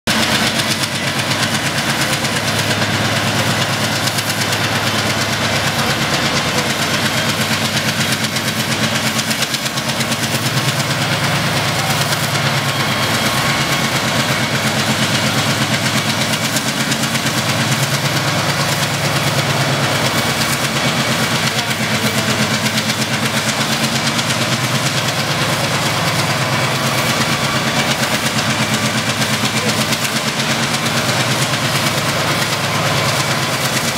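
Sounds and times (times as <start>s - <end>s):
locomotive diesel engine running: 0.1s - 33.9s.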